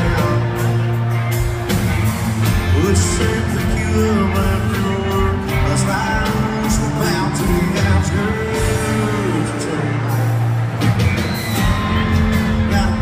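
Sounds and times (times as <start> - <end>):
country rock band playing: 0.0 - 13.0.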